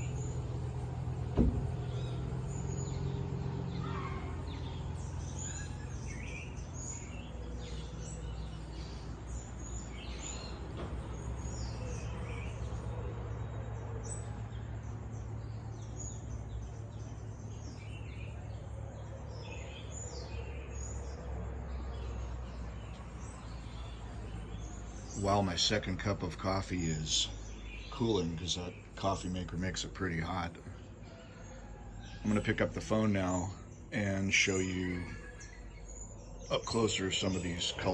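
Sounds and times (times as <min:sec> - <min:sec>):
birds chirping and whistling: 0:00.0 - 0:37.9.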